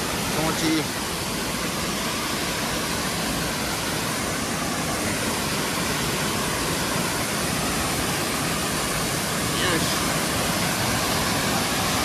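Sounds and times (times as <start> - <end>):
waterfall pouring onto rock: 0.0 - 12.0.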